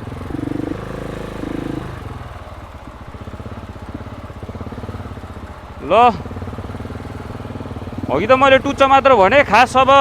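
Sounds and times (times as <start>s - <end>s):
motorcycle engine at low revs: 0.0s - 10.0s.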